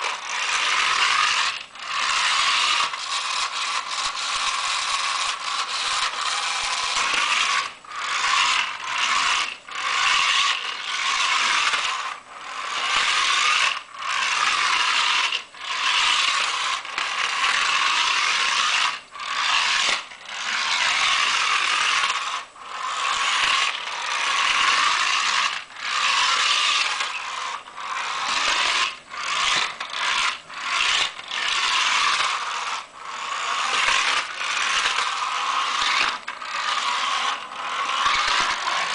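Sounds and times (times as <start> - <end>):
toy car gears whirring and rattling: 0.0 - 38.9.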